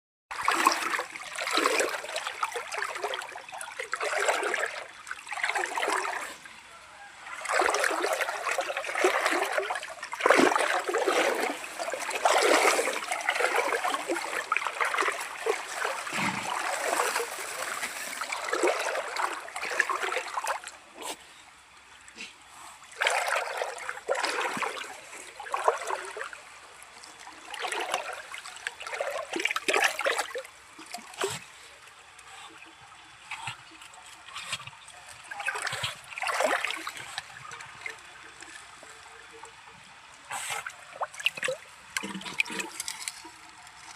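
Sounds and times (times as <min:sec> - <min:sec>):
river water splashing: 0:00.3 - 0:21.2, 0:22.9 - 0:32.6, 0:33.4 - 0:43.9.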